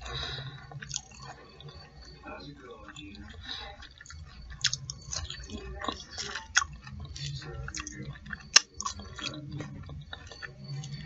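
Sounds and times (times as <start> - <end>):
chewing crunchy food: 0.0 - 11.0.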